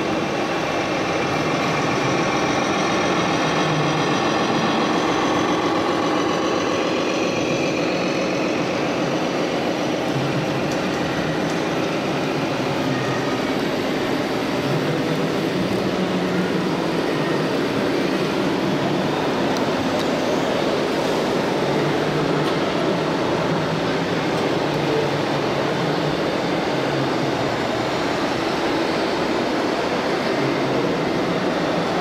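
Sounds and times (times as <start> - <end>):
model truck engines running: 0.0 - 32.0.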